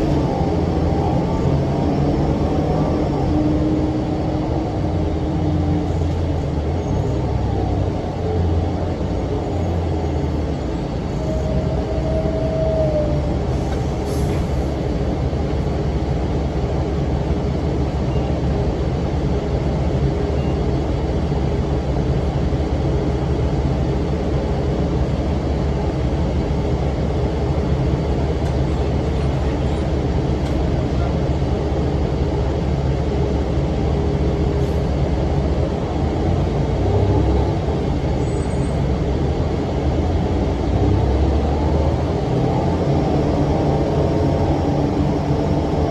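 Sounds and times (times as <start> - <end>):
bus engine deep rumble: 0.0 - 45.9.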